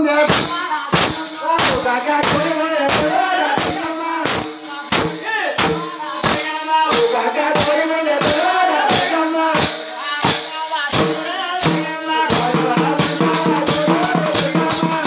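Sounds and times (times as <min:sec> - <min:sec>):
hand cymbals jingling: 0:00.0 - 0:15.0
steady struck drum beat: 0:00.0 - 0:15.0
group of voices chanting: 0:00.4 - 0:15.0.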